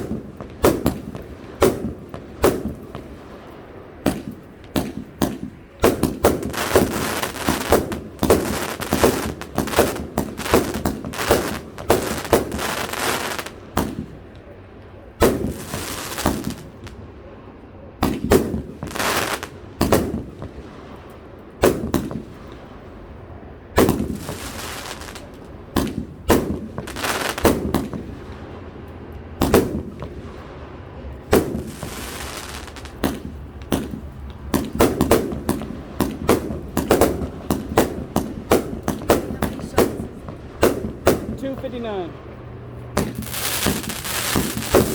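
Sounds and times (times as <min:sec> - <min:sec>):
firework bangs and bursting shells: 0:00.0 - 0:14.5, 0:15.2 - 0:17.0, 0:18.0 - 0:23.0, 0:23.7 - 0:44.9.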